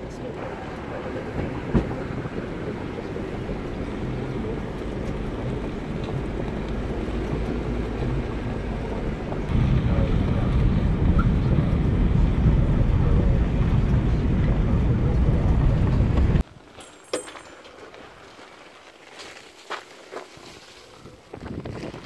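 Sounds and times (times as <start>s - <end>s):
tyres on gravel: 0.0s - 22.0s
vehicle engine rumble: 0.0s - 22.0s.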